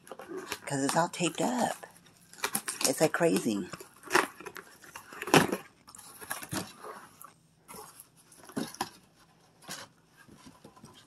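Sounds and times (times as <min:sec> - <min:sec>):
cardboard box rustling: 0:00.0 - 0:11.0.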